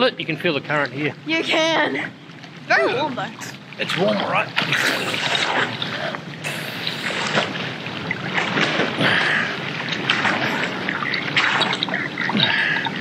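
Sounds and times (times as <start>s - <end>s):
water splashing and lapping: 0.0s - 13.0s
swimming stroke splashes: 2.0s - 13.0s.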